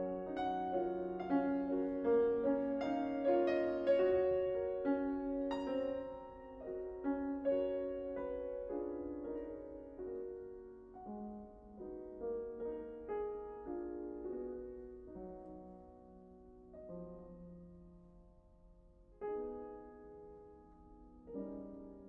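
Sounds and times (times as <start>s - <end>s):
solo piano playing: 0.0s - 22.0s.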